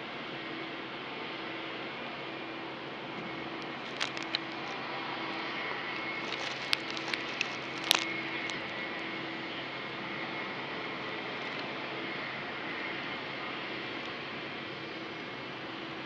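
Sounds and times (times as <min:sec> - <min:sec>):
distant jet engines rushing: 0:00.0 - 0:16.0
thin high whine: 0:00.0 - 0:16.0.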